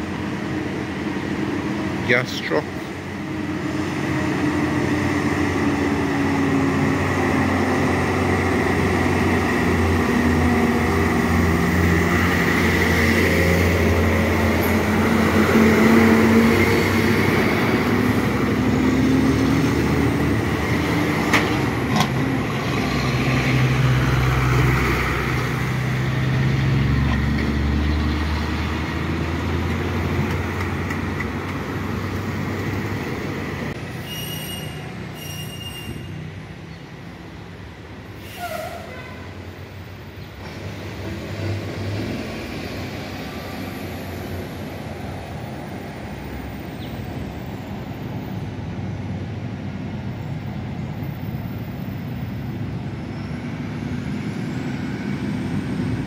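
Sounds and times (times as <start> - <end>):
tanker truck engine passing: 0.0 - 34.0, 40.3 - 56.0
traffic of trucks and cars: 0.0 - 56.0.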